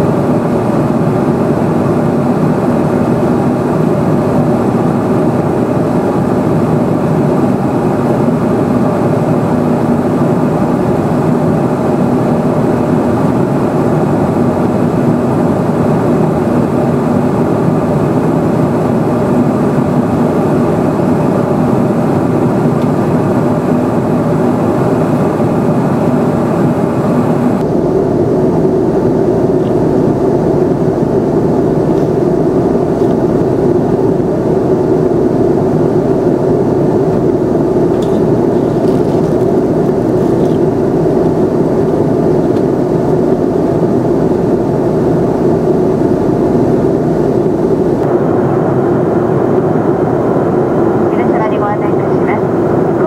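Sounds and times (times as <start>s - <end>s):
airplane cabin noise: 0.0s - 53.0s.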